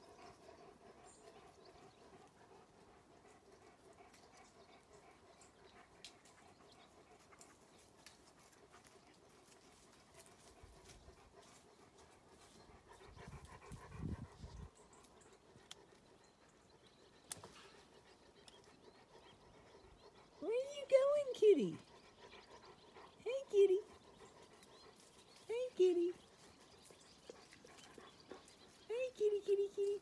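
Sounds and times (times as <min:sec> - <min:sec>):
dogs panting: 0:00.0 - 0:30.0.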